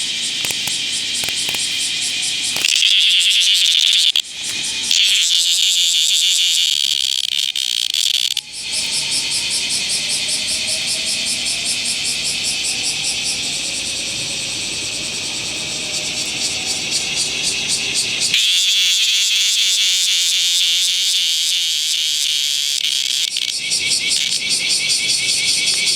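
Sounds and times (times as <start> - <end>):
cicada buzzing in rapid pulses: 0.0 - 25.9.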